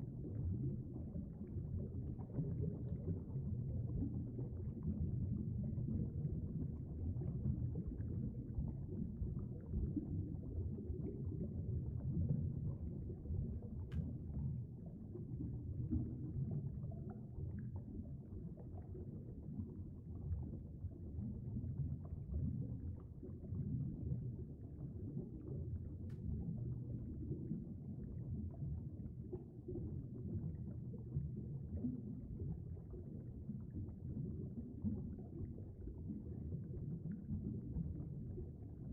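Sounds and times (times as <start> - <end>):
muffled underwater churning rumble: 0.0 - 38.9.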